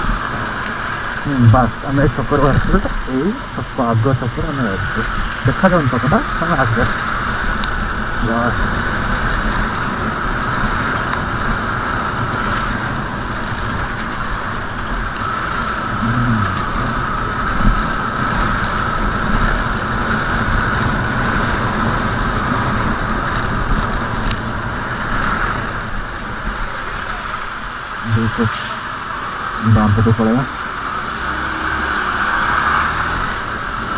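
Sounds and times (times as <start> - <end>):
vehicle engine and road noise: 0.0 - 33.9.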